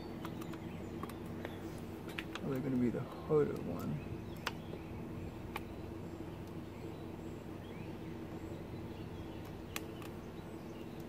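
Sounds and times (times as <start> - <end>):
faint bird chirps: 0.0 - 11.0
steady low hum: 0.0 - 11.0.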